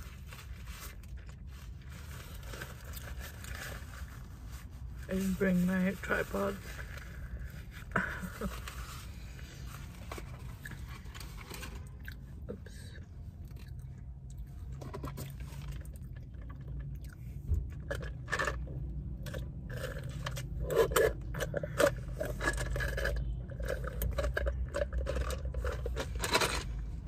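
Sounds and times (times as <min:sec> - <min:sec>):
chewing and crunching food: 0:00.0 - 0:05.2, 0:06.5 - 0:27.0
crackly clicks and scrapes: 0:00.0 - 0:27.0.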